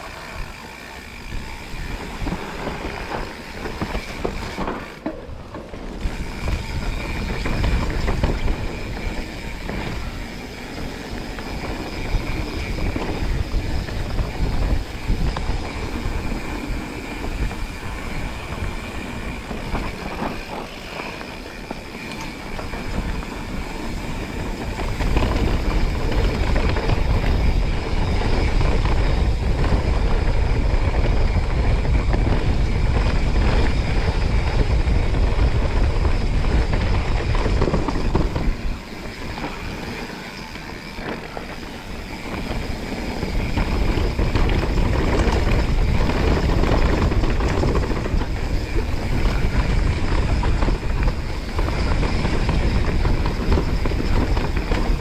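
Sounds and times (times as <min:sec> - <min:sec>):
bike rattling on rough ground: 0:00.0 - 0:55.0
wind rumbling on microphone: 0:00.0 - 0:55.0.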